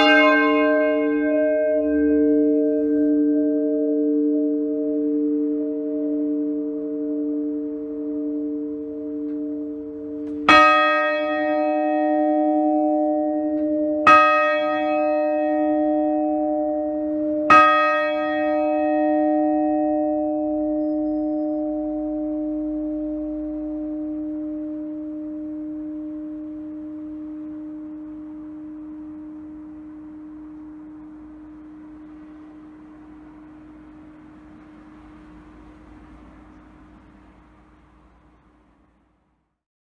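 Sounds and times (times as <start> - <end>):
church bells ringing: 0.0 - 38.4.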